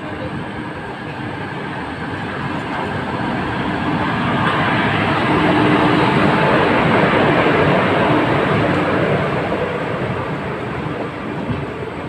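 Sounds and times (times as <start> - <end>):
train wheels on rails: 0.0 - 12.0
rushing air: 1.2 - 12.0.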